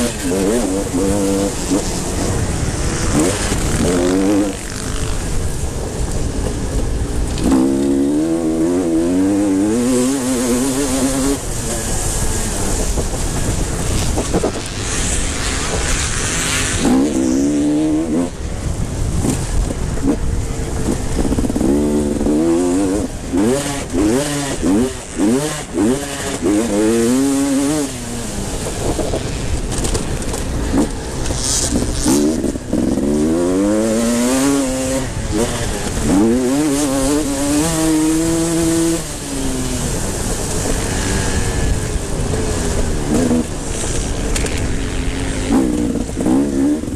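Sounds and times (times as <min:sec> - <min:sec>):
motocross motorcycles revving: 0:00.0 - 0:46.9.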